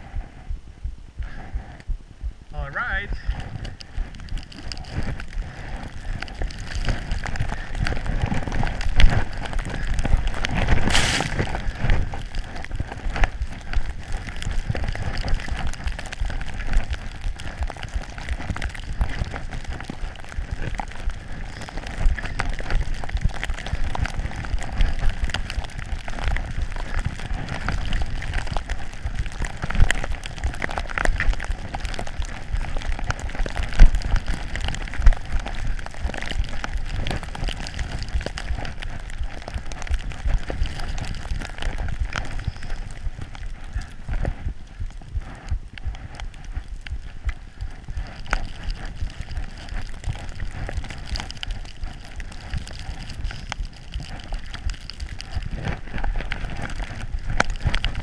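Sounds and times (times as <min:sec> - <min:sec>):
skis running over snow: 0:02.6 - 0:58.0.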